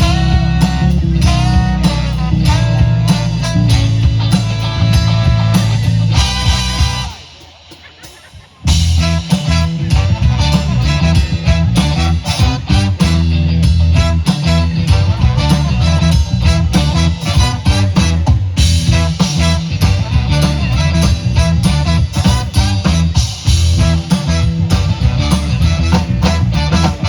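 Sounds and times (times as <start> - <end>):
heavy bass line: 0.0 - 7.3, 8.7 - 27.0
busy drums: 0.0 - 27.0
guitar: 0.0 - 27.0
live band playing loudly: 0.0 - 27.0.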